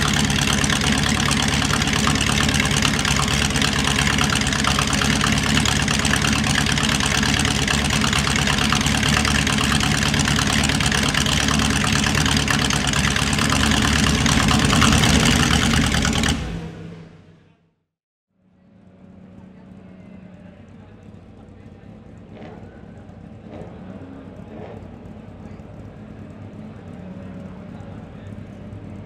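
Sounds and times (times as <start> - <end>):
car engine idling: 0.0 - 17.6, 18.4 - 29.0.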